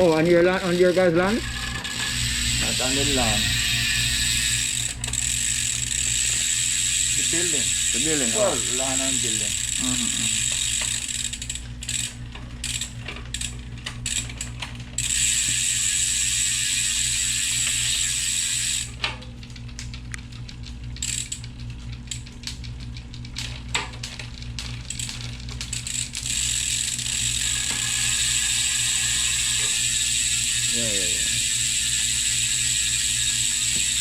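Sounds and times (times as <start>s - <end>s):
bicycle freewheel ratcheting: 0.0s - 34.0s.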